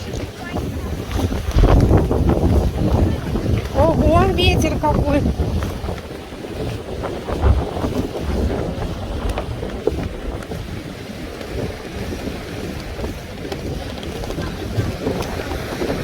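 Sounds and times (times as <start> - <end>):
heavy storm surf: 0.0 - 16.0
wind buffeting microphone: 0.0 - 16.0.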